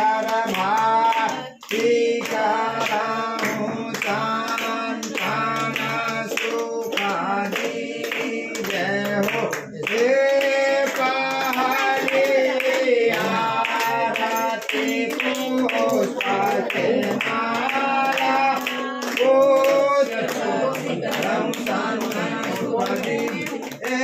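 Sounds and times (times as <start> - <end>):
group singing a hymn: 0.0 - 24.0
hands clapping in time: 0.0 - 24.0.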